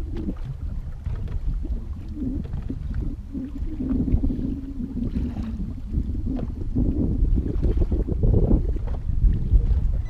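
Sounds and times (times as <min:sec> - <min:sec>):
water lapping against boat hull: 0:00.0 - 0:10.0
wind buffeting microphone: 0:00.0 - 0:10.0.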